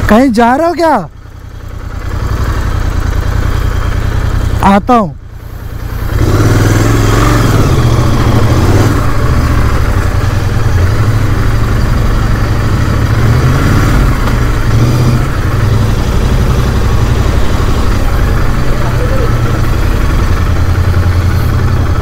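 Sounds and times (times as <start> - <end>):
motorcycle engine running: 0.0 - 22.0
road and wind rush: 0.0 - 22.0.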